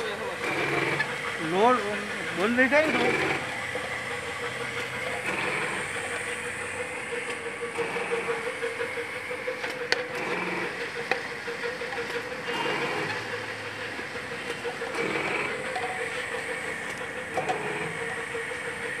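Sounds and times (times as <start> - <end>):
filling machine humming: 0.0 - 19.0.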